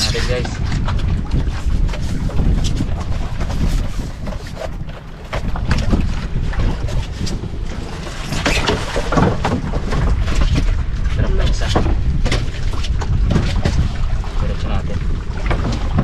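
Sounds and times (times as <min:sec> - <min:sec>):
water against hull: 0:00.0 - 0:16.0
wind buffeting microphone: 0:00.0 - 0:16.0.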